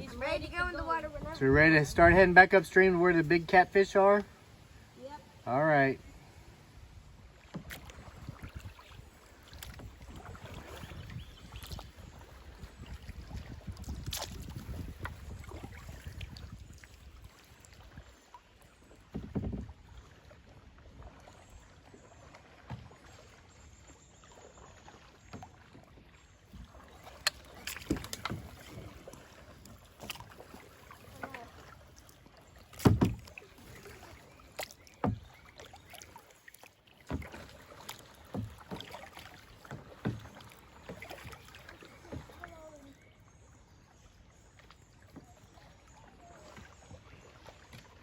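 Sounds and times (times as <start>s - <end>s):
paddle strokes in water: 0.0s - 48.0s
rush of water: 0.0s - 48.0s
wind: 0.0s - 48.0s.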